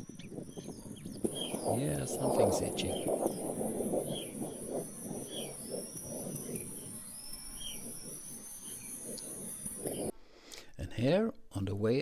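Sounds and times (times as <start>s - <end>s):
low rumble of wind: 0.0s - 10.1s
small bird chirping: 0.0s - 10.1s
steady high-pitched hiss: 0.0s - 10.1s.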